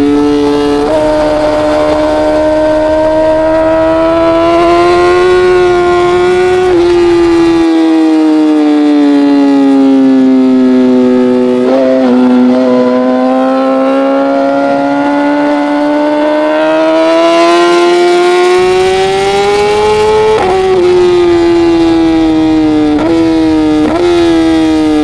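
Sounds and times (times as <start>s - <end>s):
racing motorcycle engine revving: 0.0s - 25.0s.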